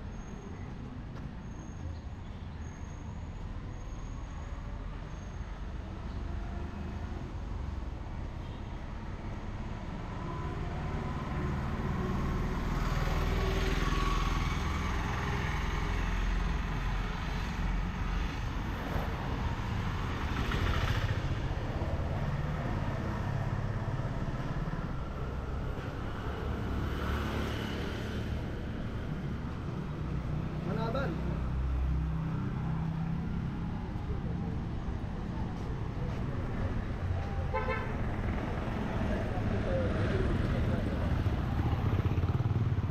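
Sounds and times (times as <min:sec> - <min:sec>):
low traffic rumble: 0:00.0 - 0:42.9
vehicles passing: 0:00.0 - 0:42.9.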